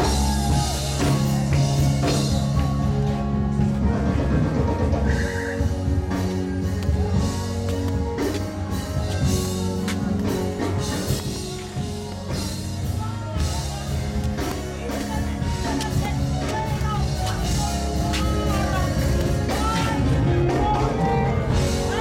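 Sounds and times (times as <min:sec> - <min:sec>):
gospel band playing: 0:00.0 - 0:22.0
sustained bass notes: 0:00.0 - 0:22.0.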